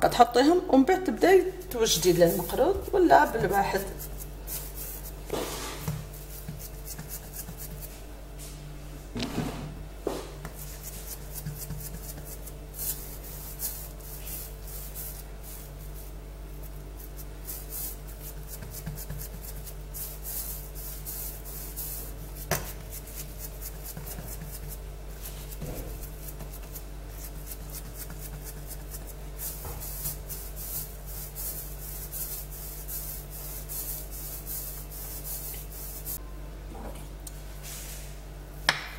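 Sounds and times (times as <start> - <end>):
steady low hum: 0.0 - 38.9
hands rubbing dough: 1.1 - 8.6, 10.4 - 36.2.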